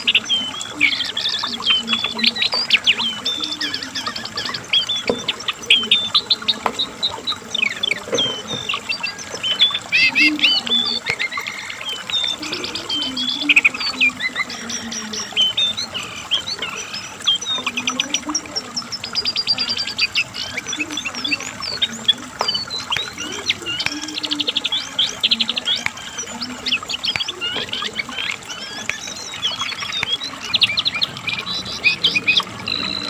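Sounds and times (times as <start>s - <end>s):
bird singing rapid trills: 0.0s - 33.0s.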